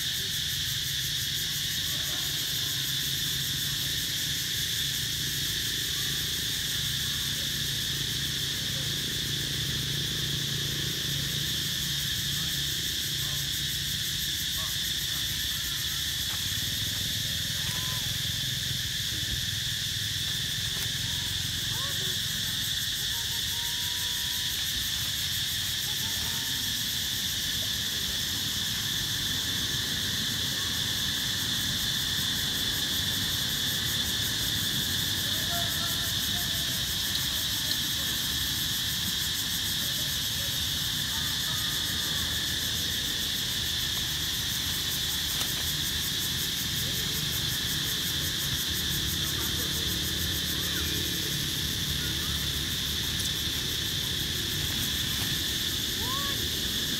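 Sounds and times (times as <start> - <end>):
insect chorus drone: 0.0 - 56.9.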